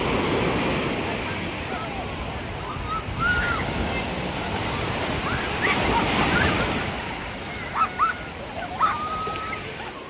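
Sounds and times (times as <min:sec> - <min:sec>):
surf washing up a beach: 0:00.0 - 0:10.0.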